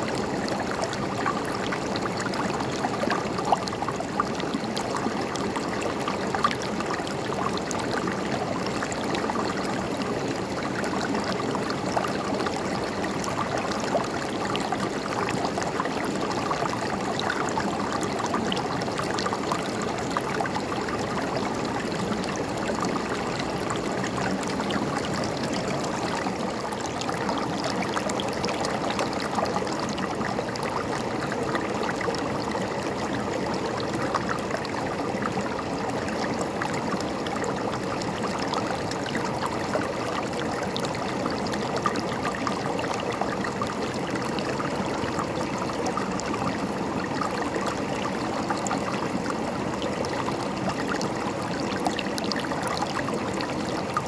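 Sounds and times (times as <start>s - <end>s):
river flowing over stones: 0.1s - 54.0s.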